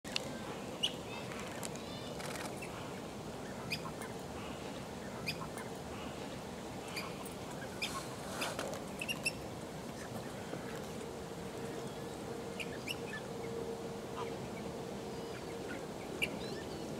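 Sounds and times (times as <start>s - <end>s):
faint steady hum: 0.1s - 16.9s
low background noise: 0.1s - 16.9s
waterbirds calling: 0.1s - 16.9s.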